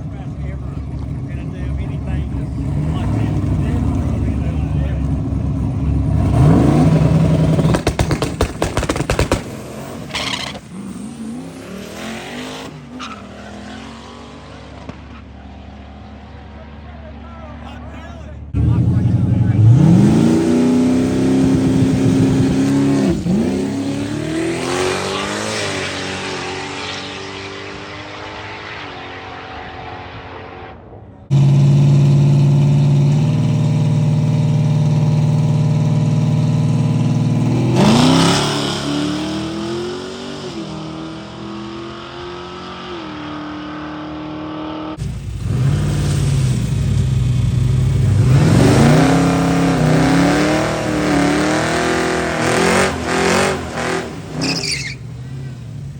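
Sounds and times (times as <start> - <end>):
drag cars accelerating: 0.0 - 55.9.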